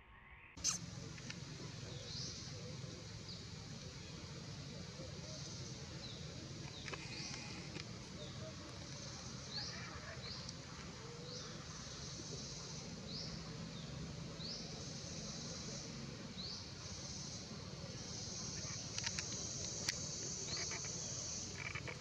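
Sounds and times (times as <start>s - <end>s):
insects buzzing in pulsing chorus: 0.6s - 22.0s.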